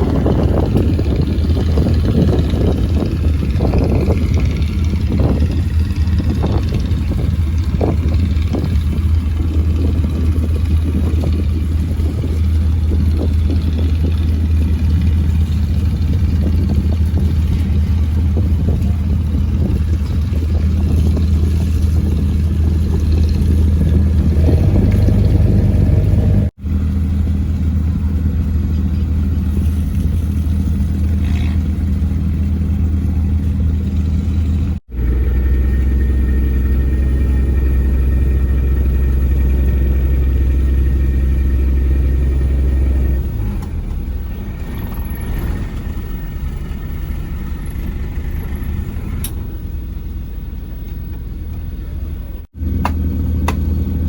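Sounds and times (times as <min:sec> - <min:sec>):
engine low drone: 0:00.0 - 0:54.0.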